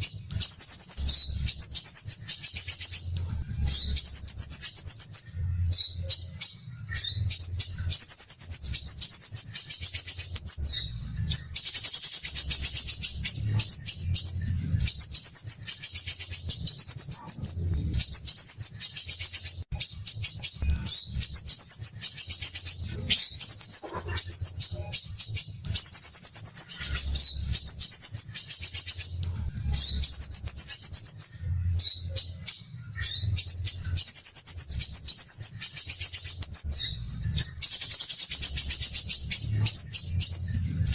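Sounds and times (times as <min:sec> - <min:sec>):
bird singing rapid high trills: 0:00.0 - 0:40.9.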